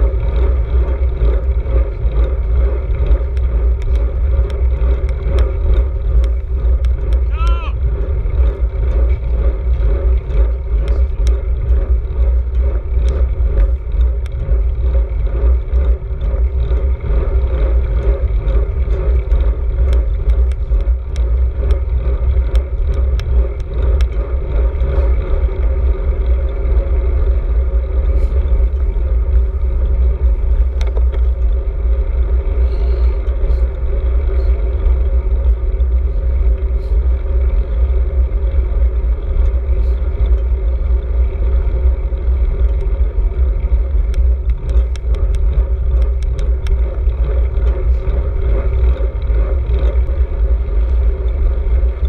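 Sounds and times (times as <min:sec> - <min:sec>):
bike clicks and rattles: 0:00.0 - 0:52.0
road and tyre noise: 0:00.0 - 0:52.0
wind buffeting microphone: 0:00.0 - 0:52.0.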